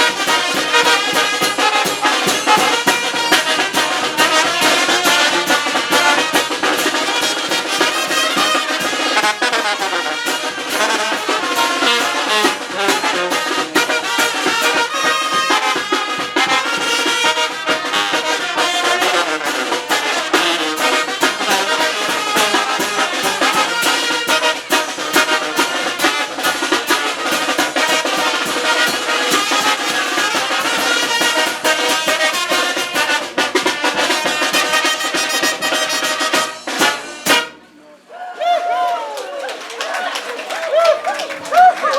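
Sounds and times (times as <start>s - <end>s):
drums beating: 0.0s - 37.6s
brass band playing: 0.0s - 37.8s
trumpets and trombones: 0.0s - 37.8s.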